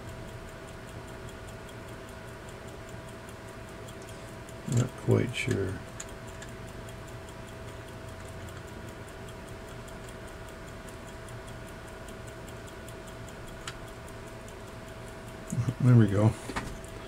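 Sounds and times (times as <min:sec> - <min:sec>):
clock ticking quickly: 0:00.0 - 0:17.0.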